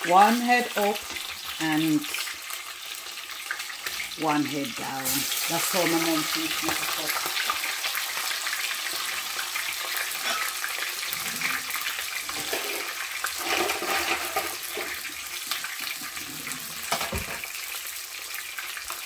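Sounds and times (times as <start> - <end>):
oil sizzling and crackling: 0.0 - 19.0.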